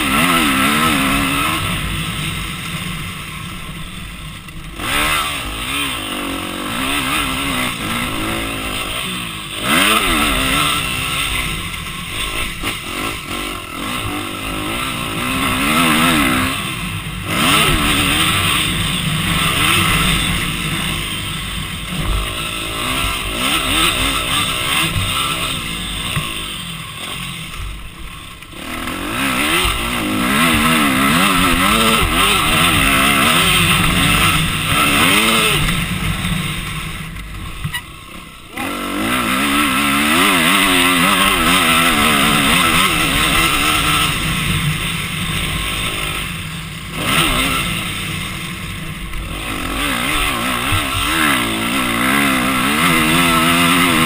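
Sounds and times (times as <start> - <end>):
quad engine revving: 0.0 - 54.0.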